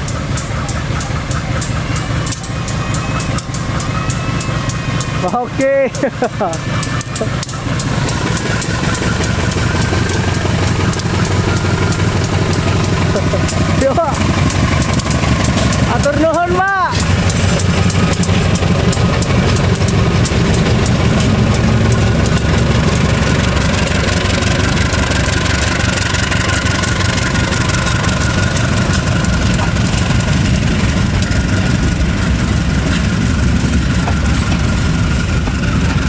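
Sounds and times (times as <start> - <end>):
diesel locomotive running: 0.0 - 36.0
train wheels clicking over rail joints: 0.0 - 36.0.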